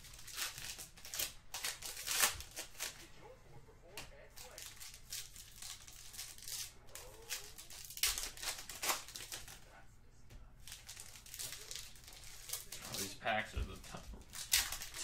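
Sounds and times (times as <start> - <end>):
card wrappers crinkling and tearing: 0.0 - 3.1, 4.0 - 9.8, 10.6 - 15.0.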